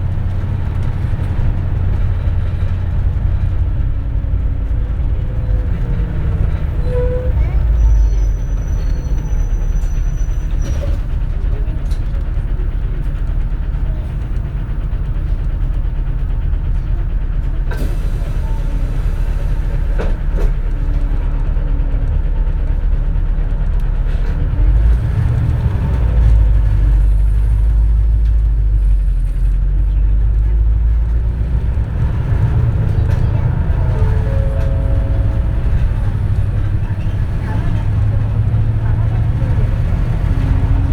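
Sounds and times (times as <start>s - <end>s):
bus body rattling: 0.0s - 40.9s
bus engine low rumble: 0.0s - 40.9s.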